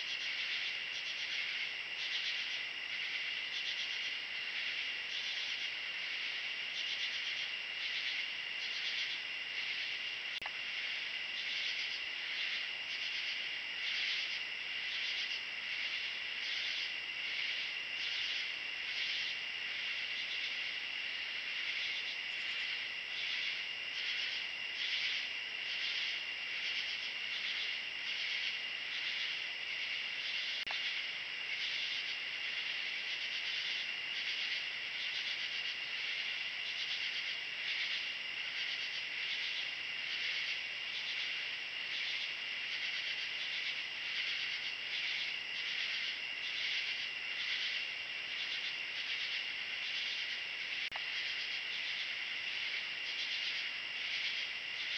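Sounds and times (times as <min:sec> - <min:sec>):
insect chorus high trill: 0:00.0 - 0:54.9
pulsing insect chirp: 0:00.0 - 0:54.9.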